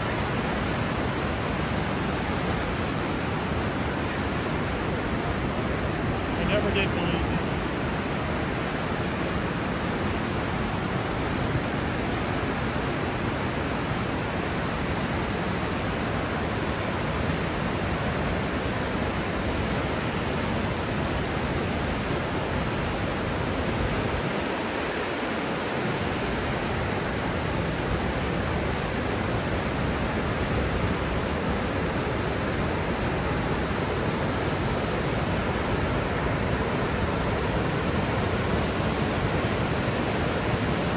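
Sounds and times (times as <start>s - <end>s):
whitewater rapids rushing: 0.0s - 40.9s.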